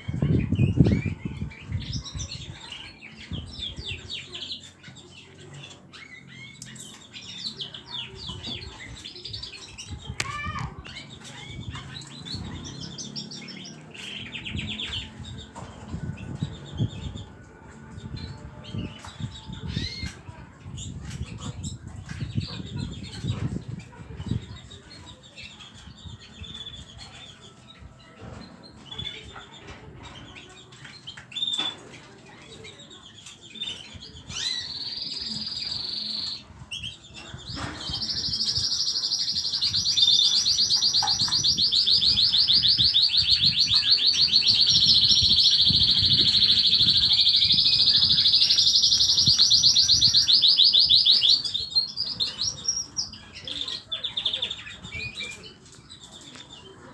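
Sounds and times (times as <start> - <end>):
bird chirping and trilling: 0.0 - 56.8.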